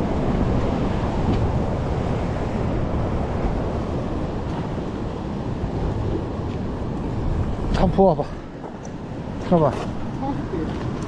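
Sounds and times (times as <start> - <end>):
ocean waves washing against rocks: 0.0 - 11.0
wind buffeting microphone: 0.0 - 11.0.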